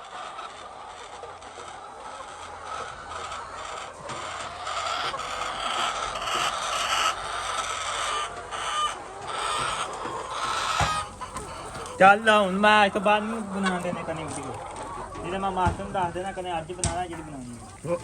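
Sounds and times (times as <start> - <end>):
hens clucking and calling: 0.0 - 18.0.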